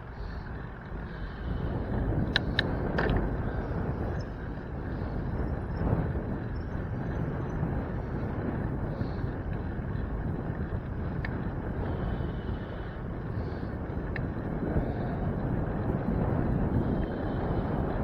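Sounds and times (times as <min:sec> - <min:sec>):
road and traffic noise: 0:00.0 - 0:18.0
wind rushing over microphone: 0:00.0 - 0:18.0.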